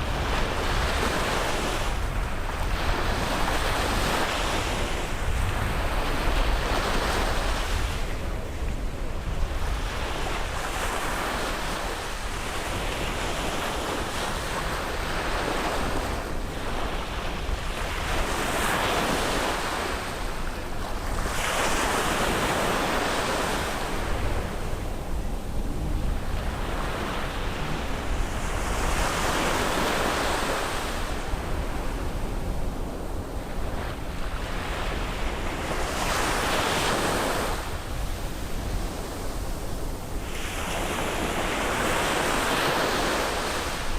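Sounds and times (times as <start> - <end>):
sea waves breaking on beach: 0.0 - 43.9
wind buffeting microphone: 0.0 - 43.9.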